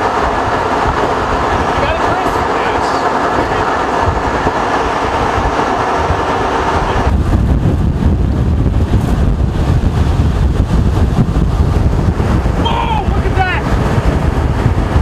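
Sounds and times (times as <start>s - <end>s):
loud steady rushing noise: 0.0s - 15.0s
wind buffeting microphone: 0.0s - 15.0s.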